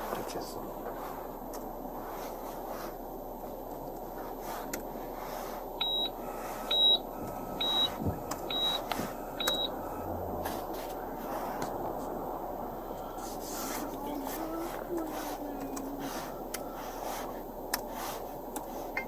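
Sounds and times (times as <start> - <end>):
low rumble of car cabin: 0.0 - 19.0.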